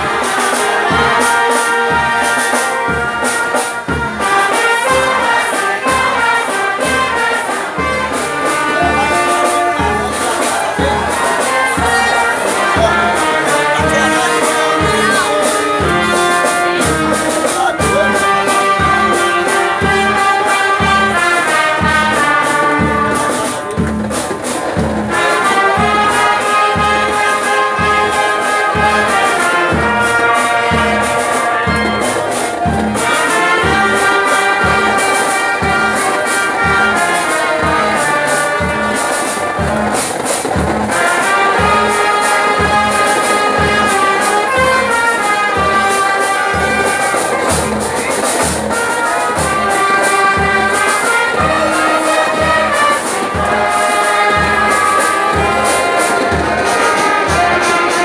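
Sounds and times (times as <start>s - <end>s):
brass band playing: 0.0s - 58.0s
steady drum beat: 0.0s - 58.0s.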